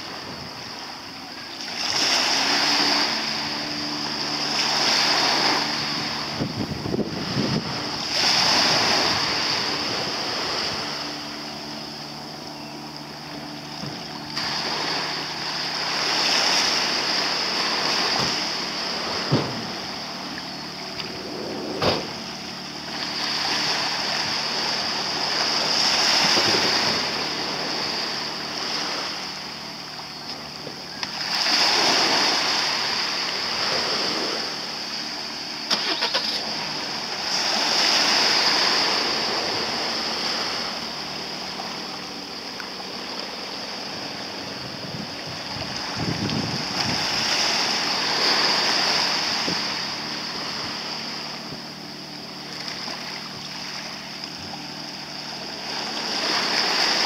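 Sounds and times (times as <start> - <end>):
low steady hum: 0.0 - 57.0
small waves washing in: 0.0 - 57.0.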